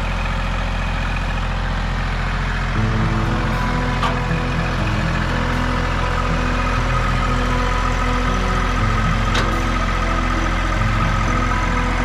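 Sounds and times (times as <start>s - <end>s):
diesel tractor idling: 0.0s - 12.0s.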